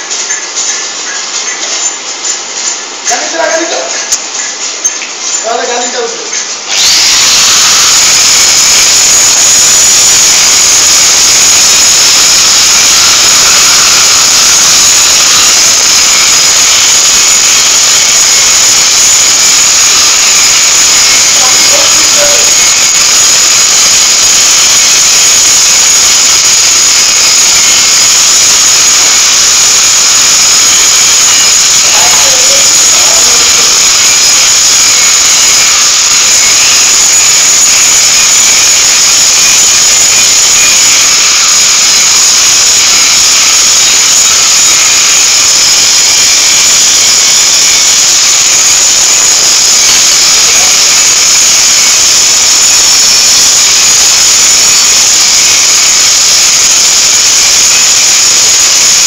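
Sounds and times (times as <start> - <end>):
machinery hissing: 0.0 - 59.0.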